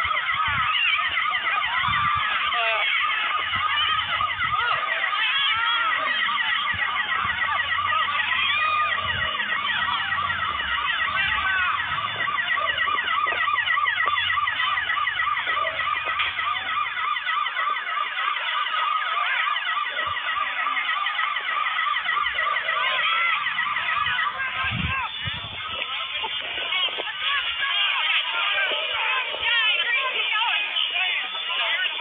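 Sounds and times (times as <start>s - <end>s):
emergency sirens yelping: 0.0s - 32.0s.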